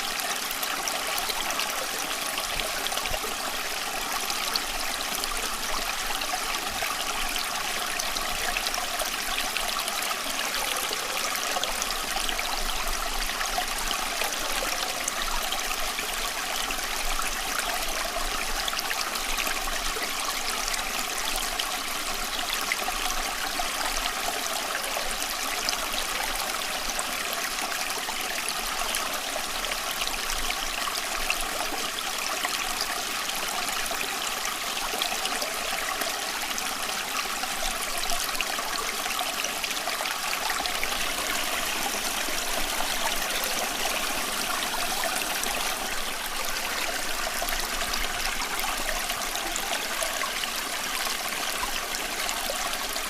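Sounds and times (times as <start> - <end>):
stream flowing and trickling: 0.0 - 53.0.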